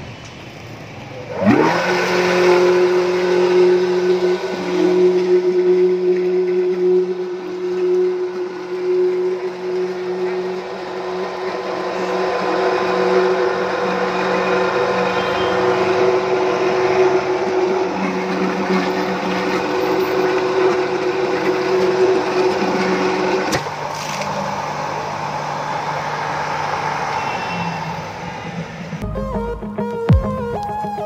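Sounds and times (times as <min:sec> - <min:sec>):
electric motor pump humming: 0:01.2 - 0:27.4.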